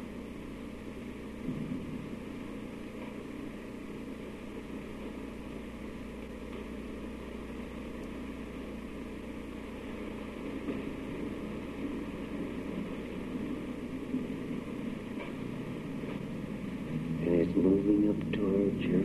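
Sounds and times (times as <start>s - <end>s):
low hum: 0.0s - 19.0s
tape hiss: 0.0s - 19.0s.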